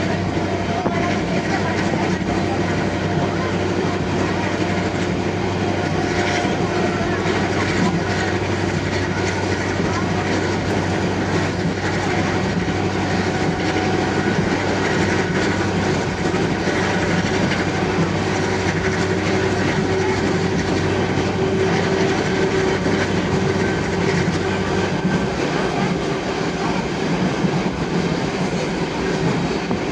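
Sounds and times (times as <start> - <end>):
train wheels rumbling on rails: 0.0 - 29.9.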